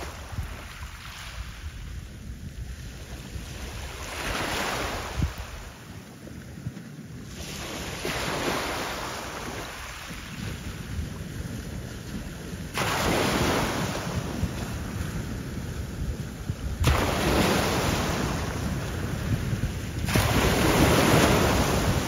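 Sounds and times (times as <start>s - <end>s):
choppy water washing: 0.0s - 22.0s
wind buffeting microphone: 0.0s - 22.0s.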